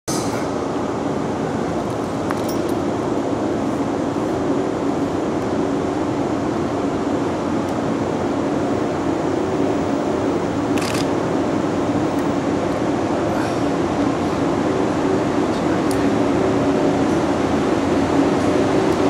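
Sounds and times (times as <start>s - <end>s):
electric locomotive humming: 0.1s - 19.0s.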